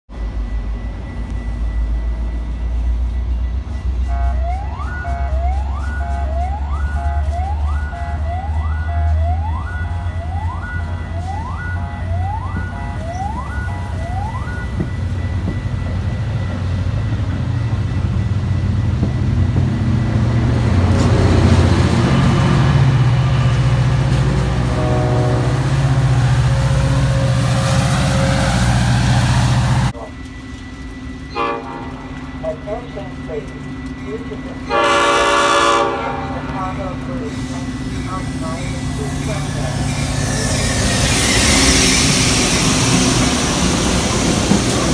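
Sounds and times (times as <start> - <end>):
train rumbling past: 0.1 - 44.9
siren-like rising wail: 0.2 - 30.0, 37.5 - 44.9.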